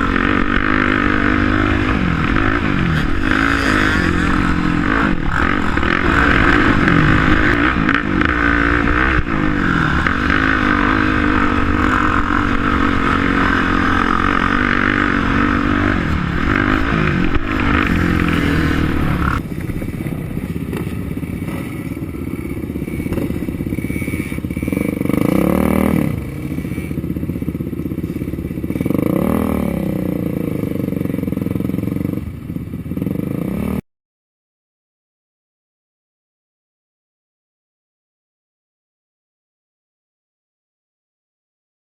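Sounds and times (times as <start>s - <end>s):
quad bike engines racing: 0.0s - 33.8s.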